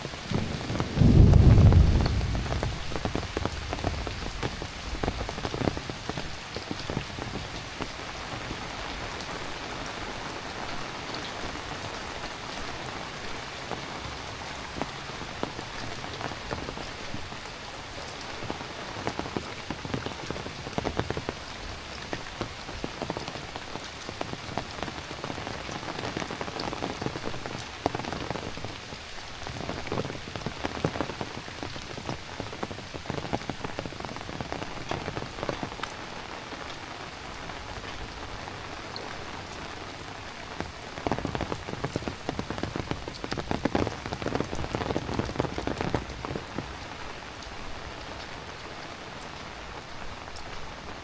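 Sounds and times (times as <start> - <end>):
heavy rain falling: 0.0 - 51.0
close drips and splashes: 0.1 - 51.0.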